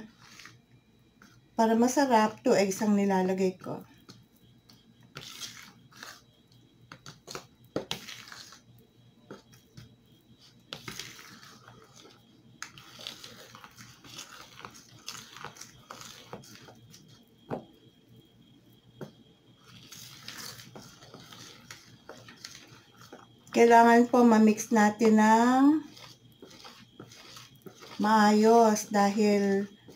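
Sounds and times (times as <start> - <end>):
spoon stirring batter in a bowl: 0.0 - 0.6, 1.2 - 29.9.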